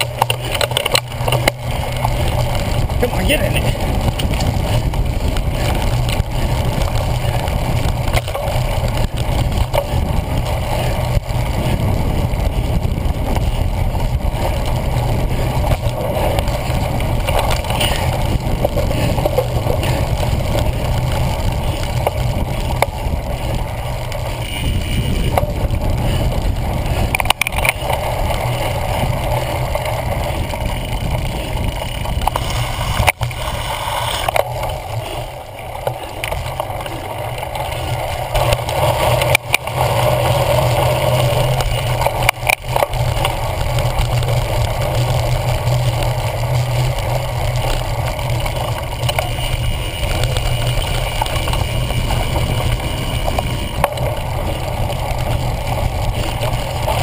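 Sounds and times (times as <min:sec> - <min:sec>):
bike rattling over ground: 0:00.0 - 0:57.0
wind buffeting camera: 0:00.0 - 0:57.0.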